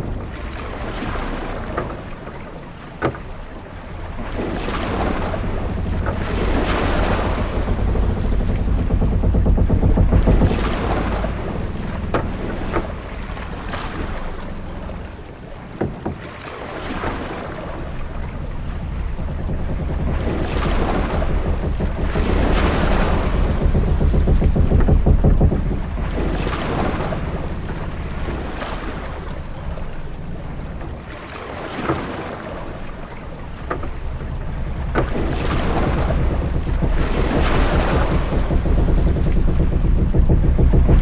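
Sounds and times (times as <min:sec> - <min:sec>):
deep rumble: 0:00.0 - 0:15.8, 0:17.2 - 0:41.0
wind: 0:00.0 - 0:41.0.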